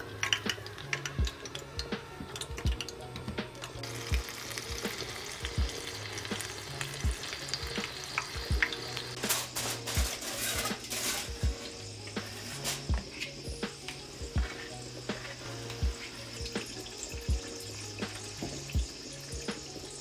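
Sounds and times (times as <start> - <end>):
background music with low beat: 0.0 - 20.0
oil sizzling in a pan: 0.0 - 20.0.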